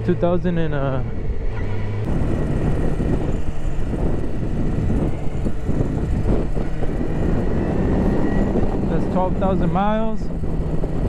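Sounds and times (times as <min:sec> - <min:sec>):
motorcycle engine running: 0:00.0 - 0:11.0
wind noise on microphone: 0:00.1 - 0:11.0.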